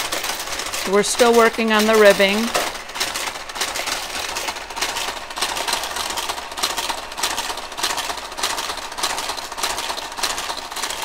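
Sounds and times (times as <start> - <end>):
knitting machine rhythmic clicking: 0.0 - 11.0.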